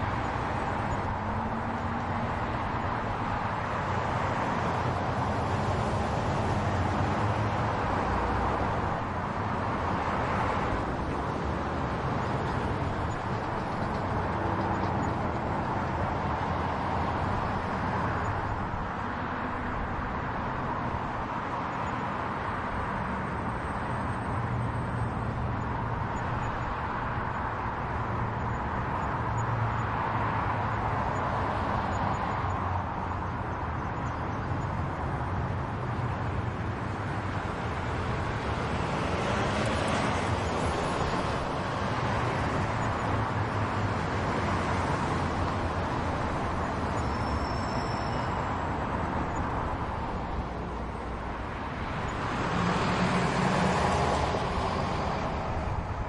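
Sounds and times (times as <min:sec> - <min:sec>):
passing cars rushing: 0:00.0 - 0:56.0.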